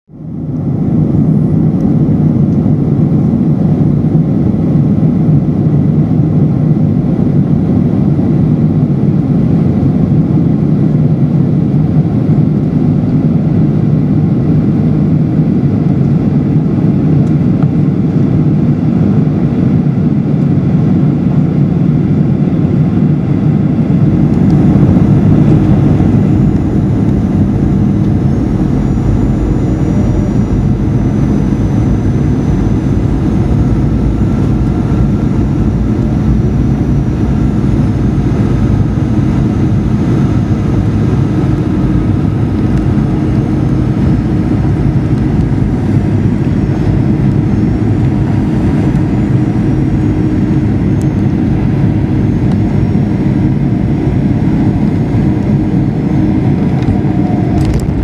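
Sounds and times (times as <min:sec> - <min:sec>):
aircraft cabin engine noise: 0:00.1 - 0:58.0.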